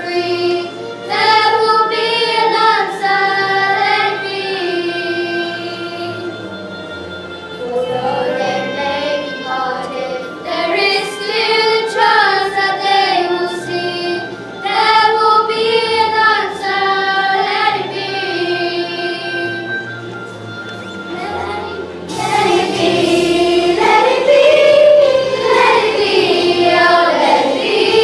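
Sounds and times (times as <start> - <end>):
children singing: 0.0 - 6.4, 7.6 - 19.8, 21.1 - 28.0
instrumental accompaniment: 0.0 - 28.0.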